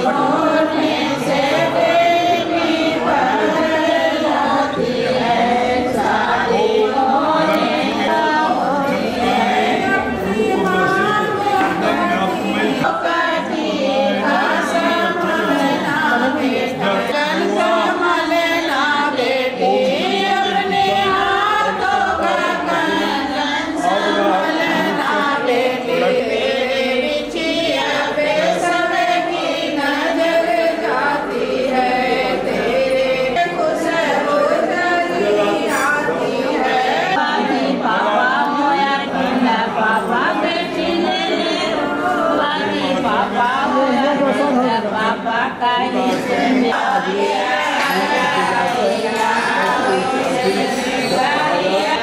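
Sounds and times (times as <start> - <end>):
group of voices chanting: 0.0 - 52.0.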